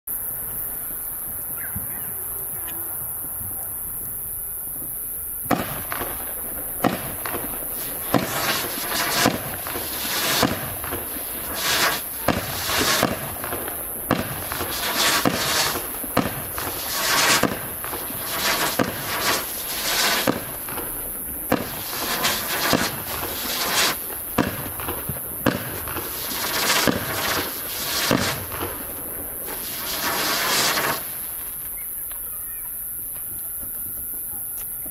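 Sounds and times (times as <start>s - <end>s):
firework hiss: 0.1s - 34.9s
firework shots popping: 1.3s - 34.9s.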